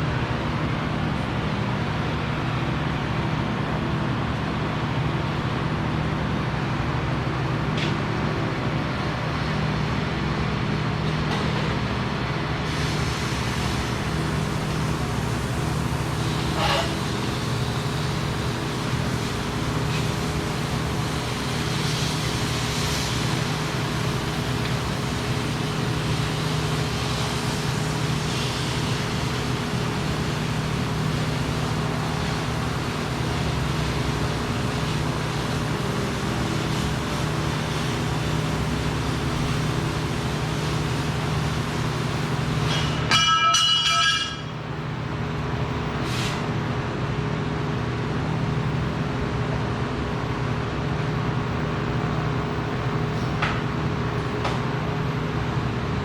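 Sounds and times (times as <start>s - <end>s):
machine hum with hiss: 0.0s - 56.0s.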